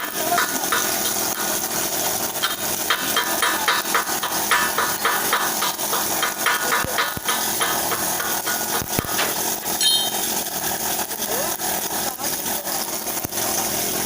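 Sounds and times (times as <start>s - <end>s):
welding arc hissing and crackling: 0.0s - 14.0s.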